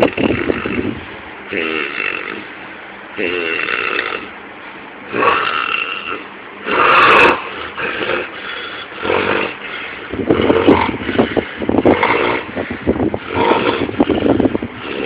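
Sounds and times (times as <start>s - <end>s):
person snoring loudly: 0.0s - 2.5s, 3.2s - 4.3s, 5.1s - 12.5s, 13.2s - 15.0s.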